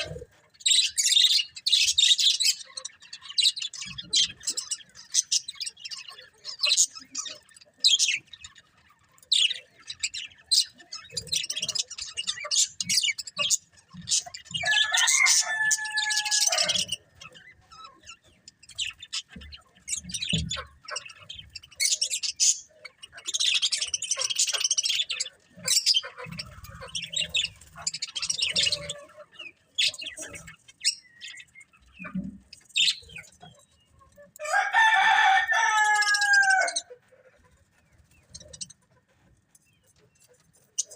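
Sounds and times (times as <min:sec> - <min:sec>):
warbling bird calls: 0:00.0 - 0:38.8
budgerigars chirping: 0:00.0 - 0:39.0.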